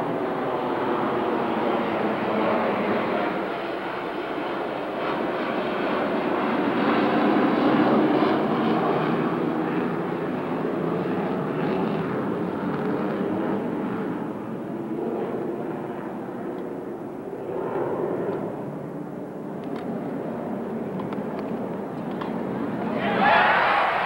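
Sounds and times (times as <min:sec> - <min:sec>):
airplane flying over: 0:00.0 - 0:24.0.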